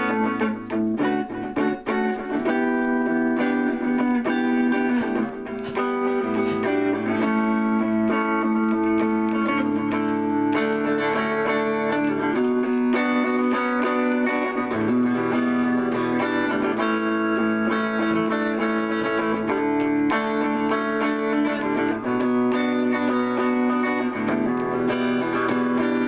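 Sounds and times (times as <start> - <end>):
clean electric guitar chords: 0.0 - 26.0.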